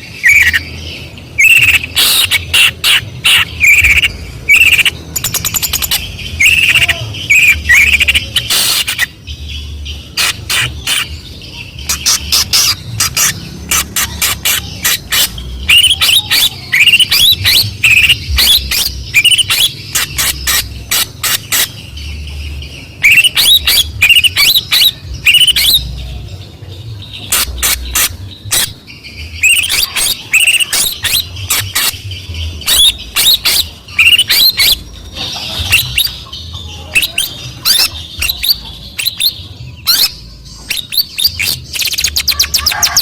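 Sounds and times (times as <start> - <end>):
shrike singing: 0.0 - 43.0.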